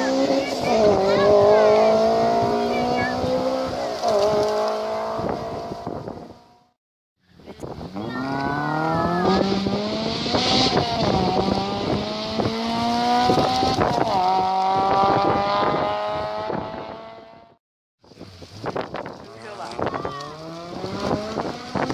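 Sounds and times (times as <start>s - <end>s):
rally car engine accelerating: 0.0s - 6.6s, 7.9s - 17.6s, 20.2s - 21.9s.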